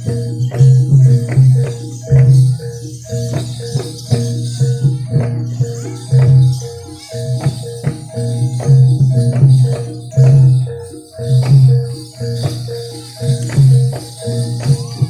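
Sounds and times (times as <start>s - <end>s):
jingling percussion: 0.0s - 15.0s
pulsing deep tone: 0.0s - 15.0s.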